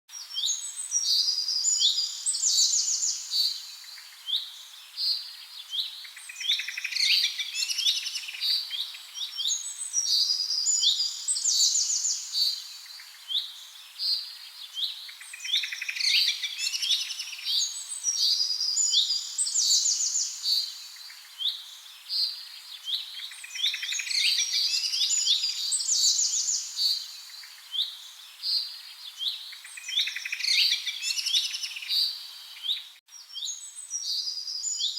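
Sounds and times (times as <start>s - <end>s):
small birds chirping and trilling: 0.1s - 34.9s.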